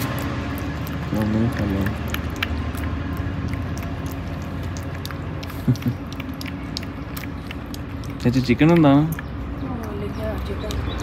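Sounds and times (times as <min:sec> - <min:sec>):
puppy chewing food in metal bowl: 0:00.0 - 0:11.0.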